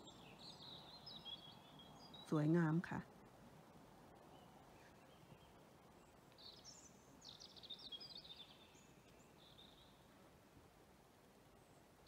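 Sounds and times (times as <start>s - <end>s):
songbird singing faintly: 0.0s - 12.0s.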